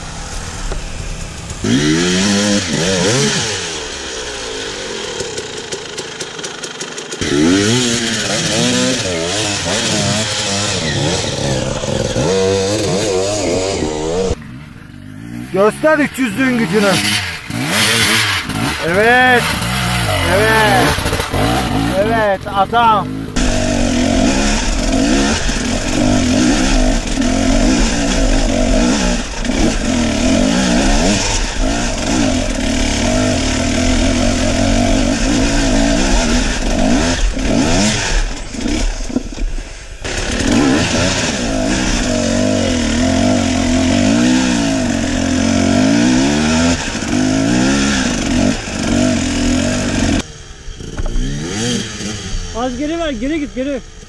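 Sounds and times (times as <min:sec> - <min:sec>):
dirt bike engine revving: 0:00.0 - 0:54.0
trail noise: 0:00.0 - 0:54.0
wind: 0:00.0 - 0:54.0.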